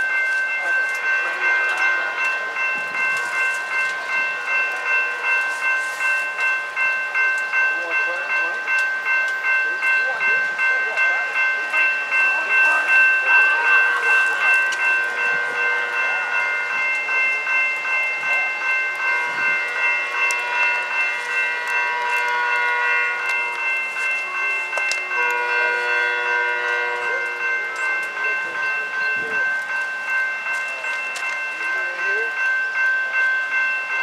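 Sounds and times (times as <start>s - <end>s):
crossing warning bell ringing: 0.0s - 34.0s.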